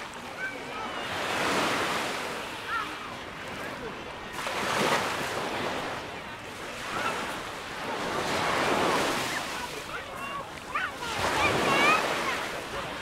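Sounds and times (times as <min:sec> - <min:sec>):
sea waves breaking: 0:00.0 - 0:13.0.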